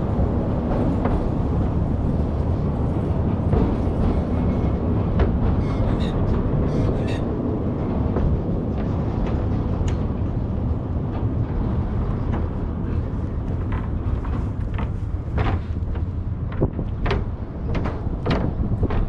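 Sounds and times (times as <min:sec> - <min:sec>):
cars driving over steel grid bridge: 0:00.0 - 0:19.0.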